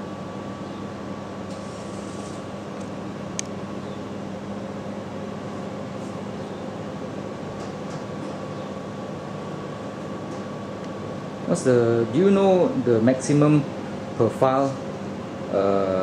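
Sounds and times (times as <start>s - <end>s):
air conditioning hum and hiss: 0.0s - 16.0s.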